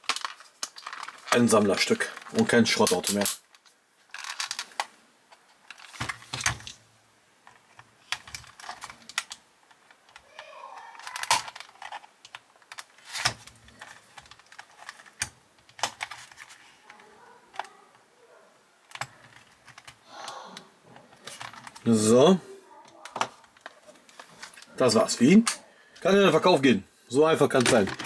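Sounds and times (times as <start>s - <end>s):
model car parts clicking and rattling: 0.0s - 6.8s, 7.4s - 18.0s, 18.9s - 20.0s, 20.9s - 22.0s, 22.8s - 26.1s, 27.5s - 28.0s.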